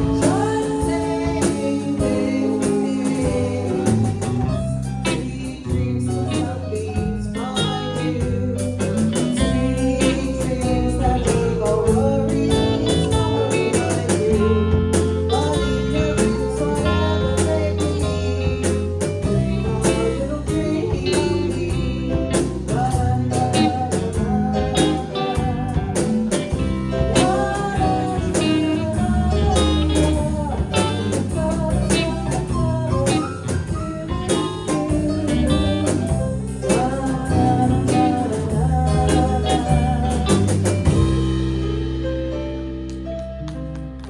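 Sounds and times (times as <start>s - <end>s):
live band playing: 0.0s - 44.0s.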